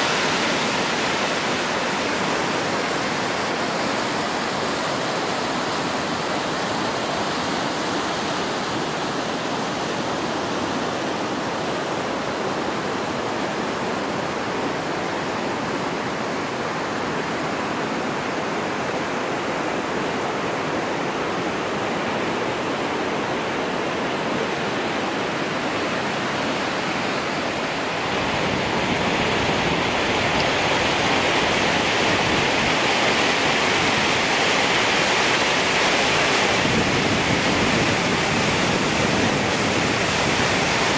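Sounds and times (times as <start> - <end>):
river rapids rushing over rocks: 0.0 - 40.9.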